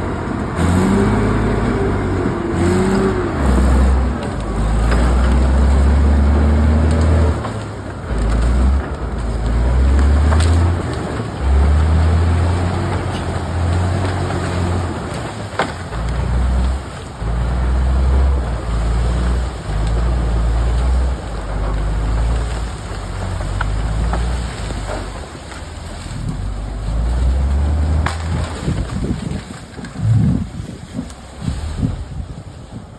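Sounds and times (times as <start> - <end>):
heavy equipment engine rumble: 0.0 - 32.9.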